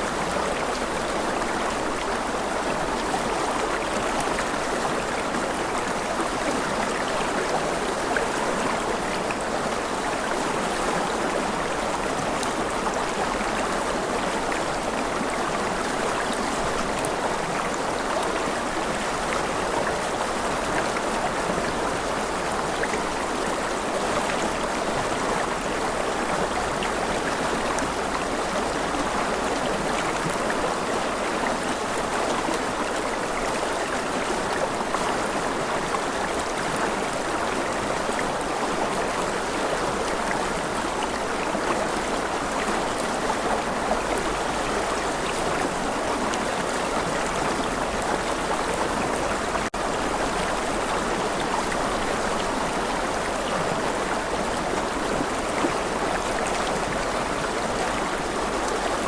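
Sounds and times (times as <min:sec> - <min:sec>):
stream water running: 0:00.0 - 0:59.0.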